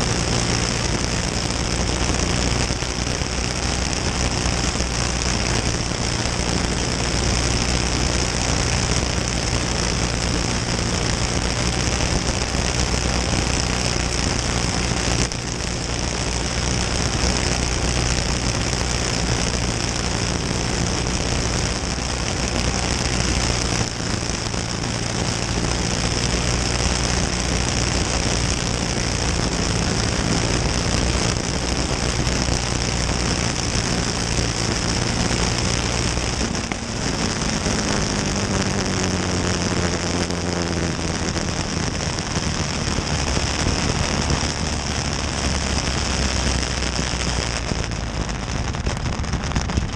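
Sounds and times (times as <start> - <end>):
kart engine running hard: 0.0 - 49.9.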